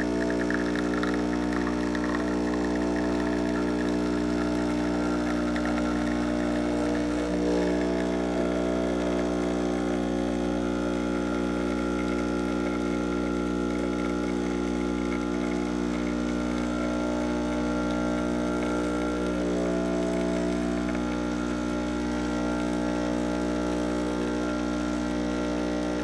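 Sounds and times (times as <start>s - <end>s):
espresso machine pump humming: 0.0s - 26.0s.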